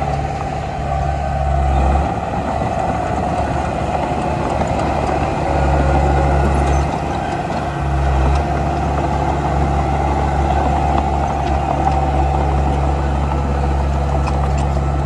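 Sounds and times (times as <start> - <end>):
bulldozer diesel engine rumbling: 0.0 - 15.0.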